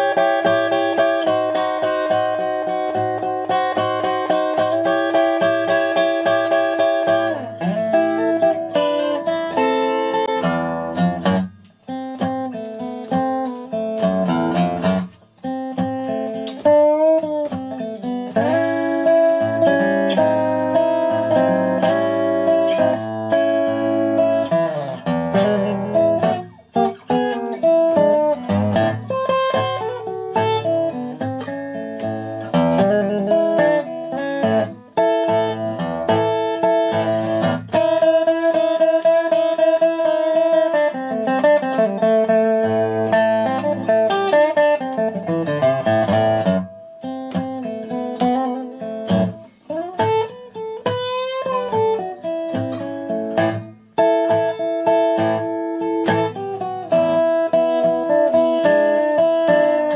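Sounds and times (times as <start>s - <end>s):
plucked string instrumental music: 0.0s - 59.9s.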